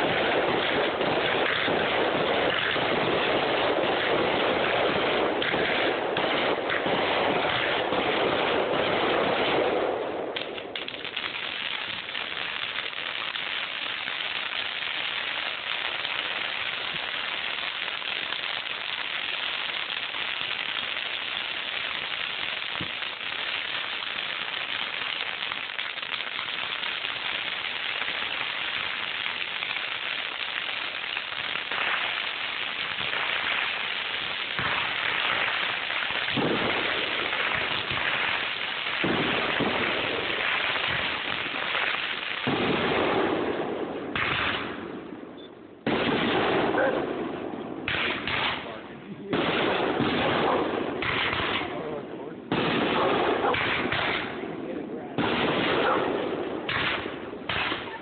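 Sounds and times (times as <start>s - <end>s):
fireworks popping: 0.0s - 58.0s
heavy fireworks bangs: 0.0s - 58.0s.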